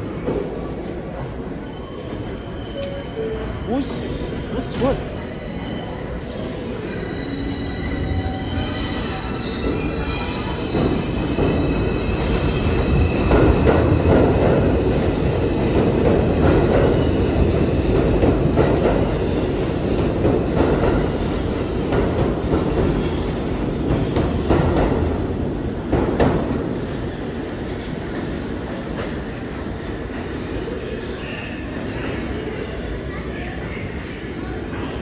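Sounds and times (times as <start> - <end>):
subway train rumbling: 0.0 - 35.0.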